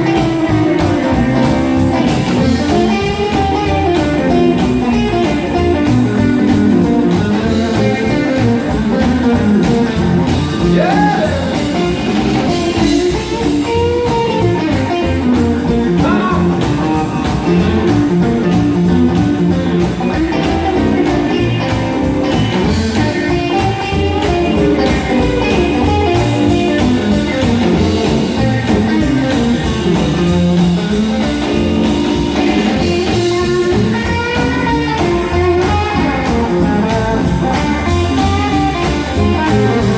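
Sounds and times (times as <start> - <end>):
bass guitar: 0.0 - 39.9
electric guitar lead: 0.0 - 39.9
rhythm guitar: 0.0 - 39.9
steady drum beat: 0.0 - 39.9.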